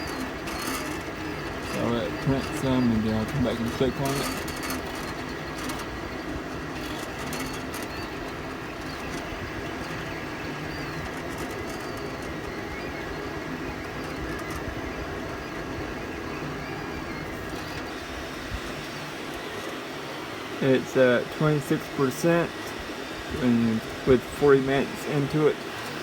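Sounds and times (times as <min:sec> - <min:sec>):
printer fans and motors humming: 0:00.0 - 0:26.0
stepper motors whining: 0:00.0 - 0:26.0.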